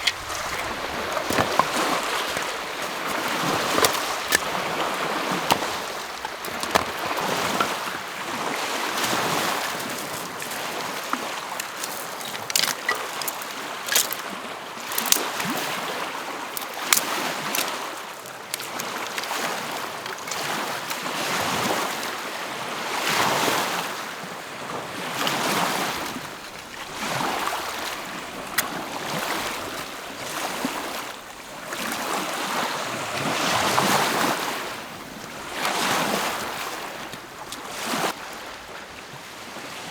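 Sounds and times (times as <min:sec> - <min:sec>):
lake waves washing onto shore: 0:00.0 - 0:39.9.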